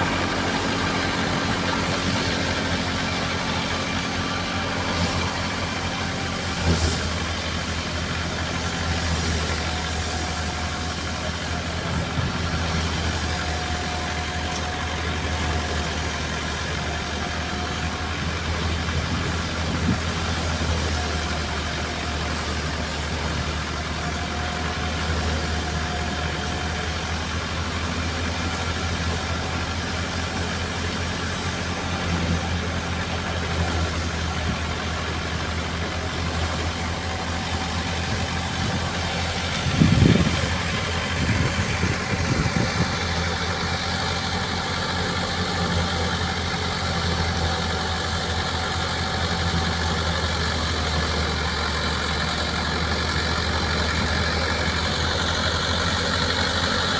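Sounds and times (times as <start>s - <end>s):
tractor engine with thresher: 0.0s - 56.9s.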